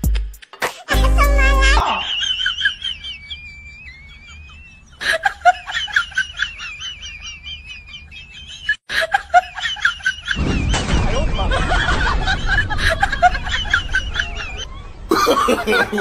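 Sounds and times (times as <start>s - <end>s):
high-pitched giggling laughter: 0.7s - 10.4s, 11.5s - 16.0s.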